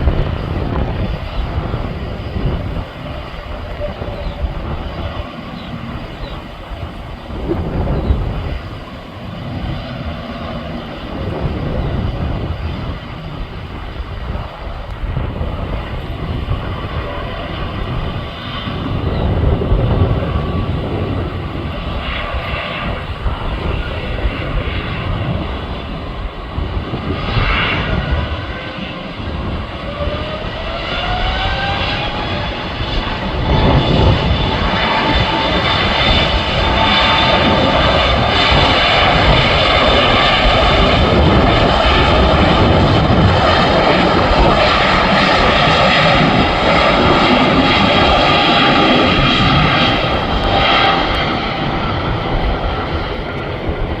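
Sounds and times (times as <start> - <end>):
jet engines rumbling and whining: 0.0 - 54.0.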